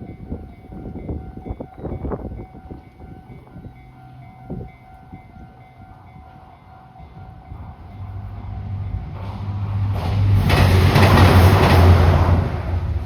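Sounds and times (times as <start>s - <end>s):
low rumble of train: 0.0s - 13.0s.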